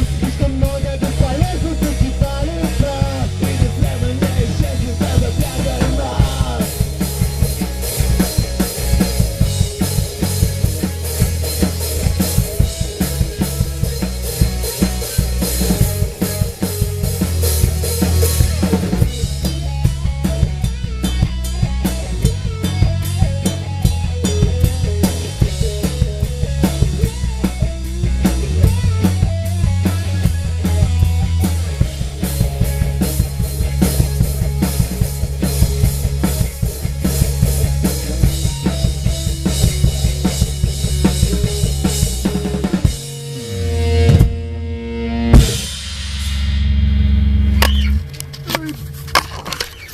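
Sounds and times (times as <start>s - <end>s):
drum kit beat: 0.0s - 49.1s
low bass notes: 0.0s - 49.6s.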